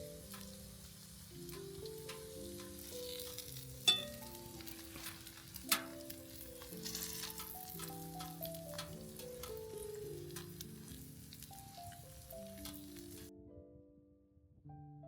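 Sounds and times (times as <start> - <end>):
faint crackling hiss: 0.0 - 13.3
slow background music: 0.0 - 15.0.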